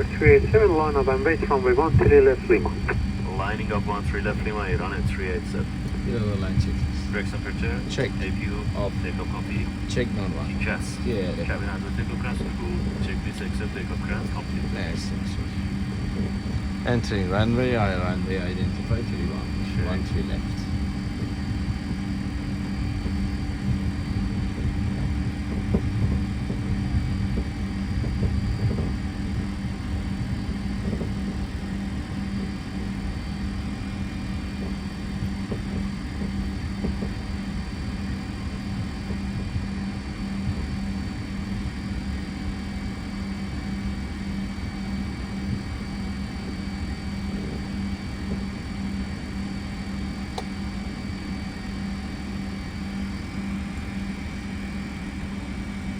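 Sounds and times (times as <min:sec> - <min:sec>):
jet engines idling rumble: 0:00.0 - 0:55.9.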